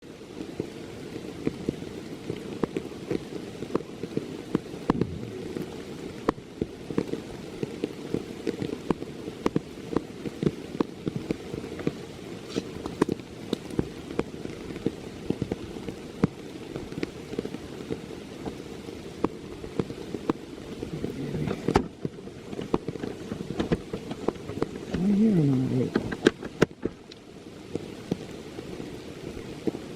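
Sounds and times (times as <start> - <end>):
rain hiss: 0.0 - 29.9
raindrops tapping: 0.2 - 29.9.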